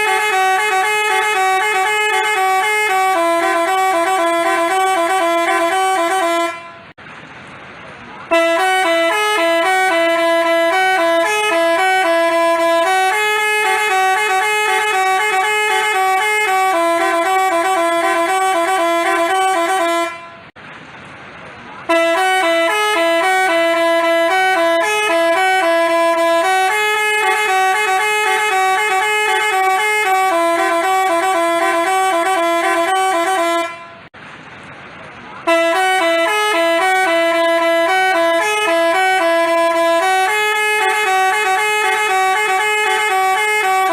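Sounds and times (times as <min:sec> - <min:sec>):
multi-tone bus horn melody: 0:00.0 - 0:07.0, 0:08.2 - 0:20.6, 0:21.8 - 0:34.2, 0:35.4 - 0:43.9.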